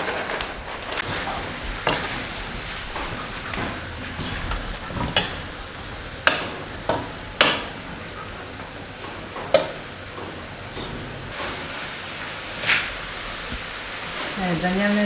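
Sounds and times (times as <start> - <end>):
chicken sizzling in a pan: 1.0 - 15.0.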